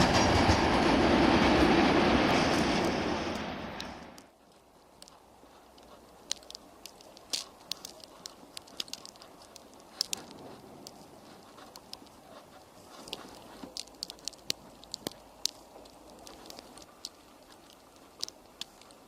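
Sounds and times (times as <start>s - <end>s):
snow pattering on camera: 0.0s - 19.0s
soft steady hiss: 2.8s - 19.0s.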